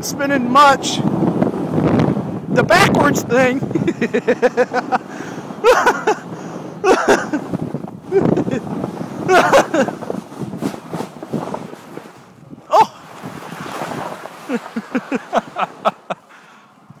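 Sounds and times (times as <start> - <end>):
wind on microphone: 0.0 - 16.2
snow tube sliding over snow: 0.2 - 16.4.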